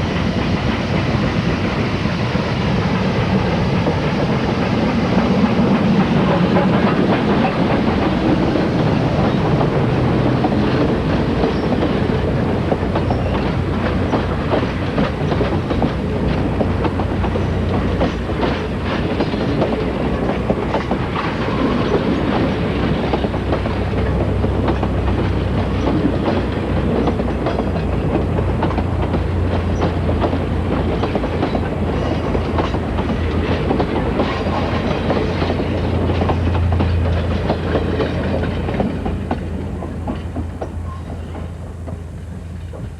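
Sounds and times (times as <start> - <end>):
low train rumble: 0.0 - 42.9
train wheels clicking over rail joints: 0.0 - 42.9.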